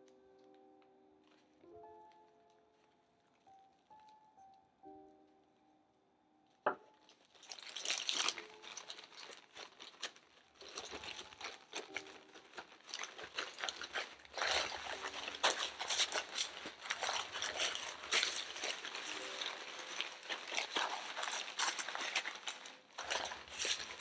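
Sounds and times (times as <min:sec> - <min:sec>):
plastic bag crinkling: 0:00.4 - 0:04.5, 0:06.7 - 0:24.0.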